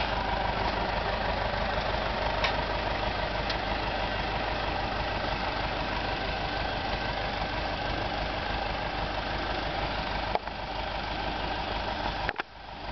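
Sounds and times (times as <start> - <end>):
tractor engine idling: 0.0 - 12.9.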